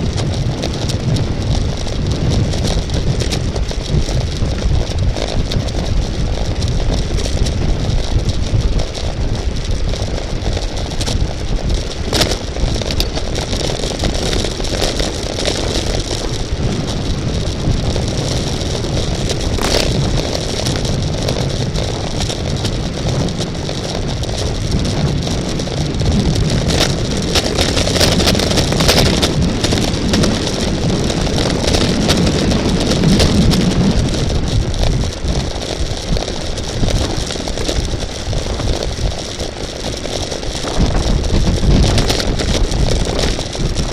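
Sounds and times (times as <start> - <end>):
bike clicks and rattles: 0.0 - 43.9
wind rumble on microphone: 0.0 - 43.9.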